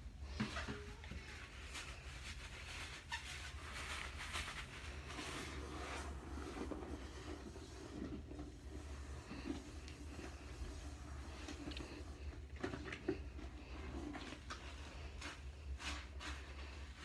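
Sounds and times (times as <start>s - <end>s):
sponge scrubbing toilet bowl: 0.0s - 17.0s.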